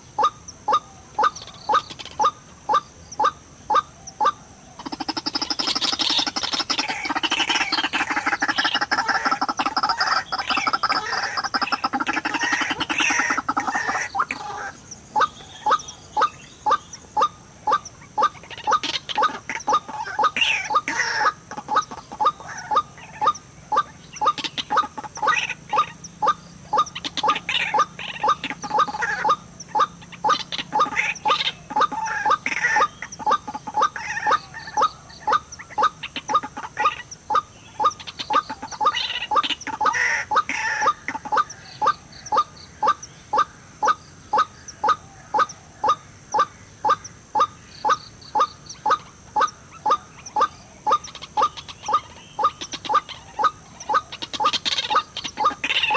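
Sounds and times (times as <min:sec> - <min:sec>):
harsh bird calls: 0:00.0 - 0:55.9.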